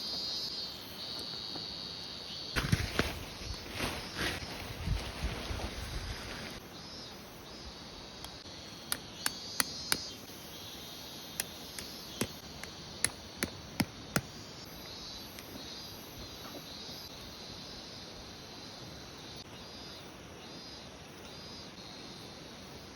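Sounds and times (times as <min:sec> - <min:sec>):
insects chirping: 0:00.0 - 0:22.9.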